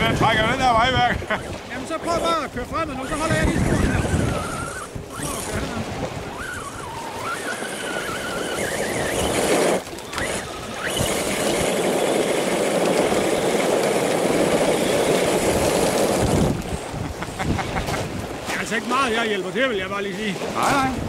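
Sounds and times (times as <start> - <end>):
steady rushing noise: 0.0 - 21.0
electric motor and gears whining: 1.9 - 19.2.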